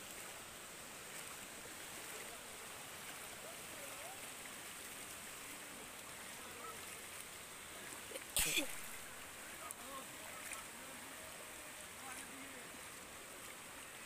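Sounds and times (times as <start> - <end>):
faint steady hiss: 0.0 - 14.0
faint distant voices: 0.6 - 14.0.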